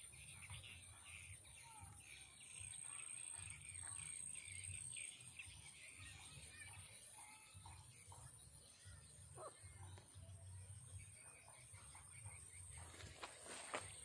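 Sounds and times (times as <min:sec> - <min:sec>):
distant bird calls: 0:00.0 - 0:14.0.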